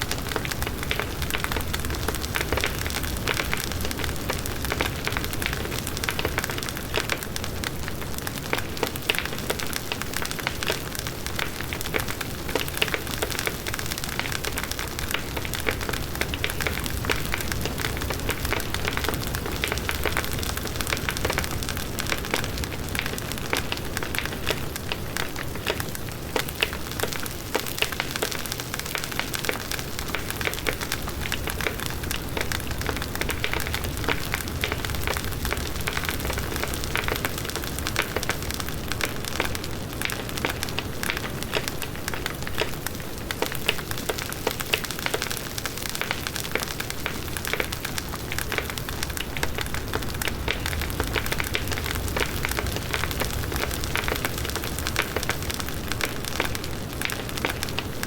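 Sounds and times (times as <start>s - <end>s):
burning wood crackling: 0.0s - 58.0s
low blaze of flames: 0.0s - 58.0s.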